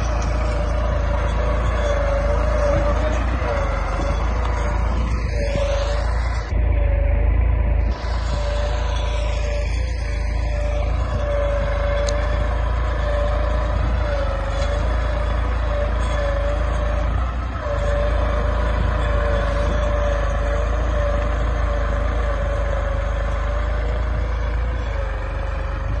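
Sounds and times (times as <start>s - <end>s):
engine whine: 0.0s - 26.0s
tractor diesel engine running: 0.0s - 26.0s.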